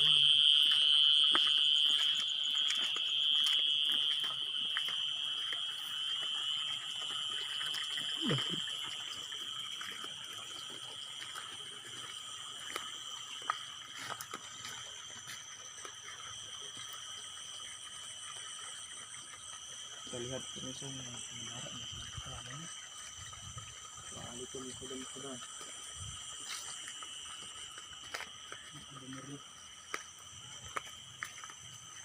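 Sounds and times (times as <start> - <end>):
insect chorus drone: 0.0 - 32.0.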